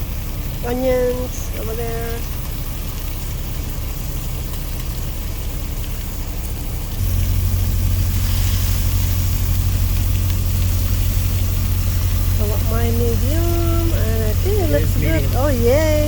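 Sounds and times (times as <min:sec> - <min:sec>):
food sizzling on grill: 0:00.0 - 0:16.0
truck diesel engine idling: 0:00.0 - 0:16.0.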